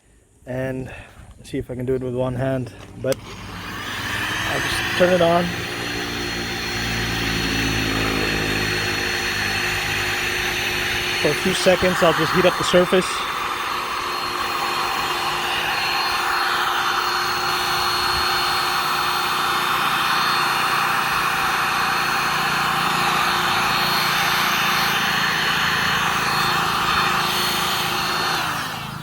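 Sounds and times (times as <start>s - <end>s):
heat gun fan whine: 1.8s - 29.0s.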